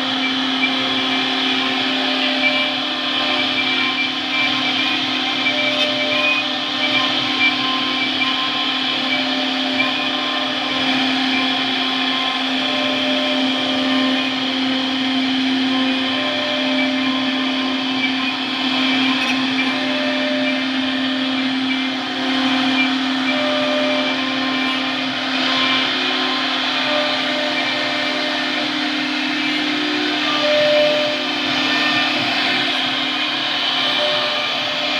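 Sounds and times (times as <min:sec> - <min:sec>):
router spindle whine: 0:00.0 - 0:34.9
short repeating motor tones: 0:00.0 - 0:34.9.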